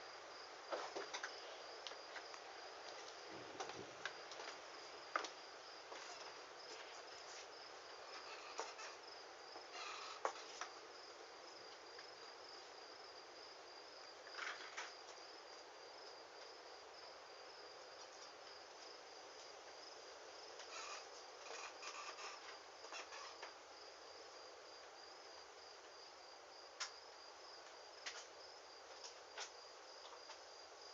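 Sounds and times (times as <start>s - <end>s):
cricket chirping: 0.0s - 30.9s.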